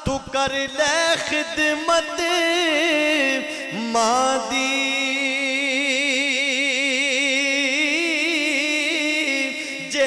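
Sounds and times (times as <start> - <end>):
man singing long note with vibrato: 0.0 - 10.0.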